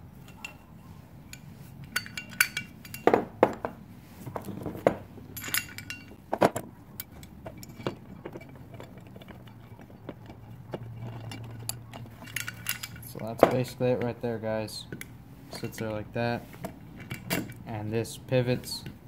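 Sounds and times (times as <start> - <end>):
metal hardware clinking on workbench: 0.2 - 17.9.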